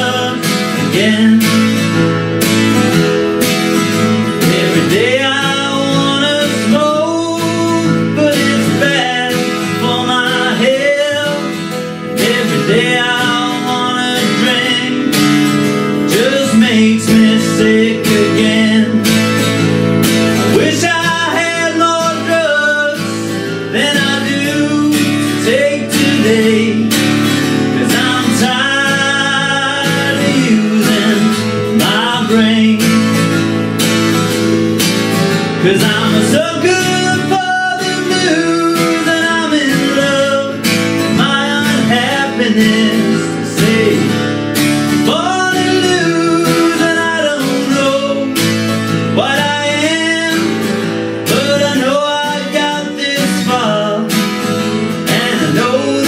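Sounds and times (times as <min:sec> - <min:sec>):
person singing: 0:00.0 - 0:02.0, 0:04.1 - 0:19.6, 0:20.3 - 0:33.4, 0:35.5 - 0:54.2, 0:54.9 - 0:56.0
acoustic guitar strumming: 0:00.0 - 0:56.0.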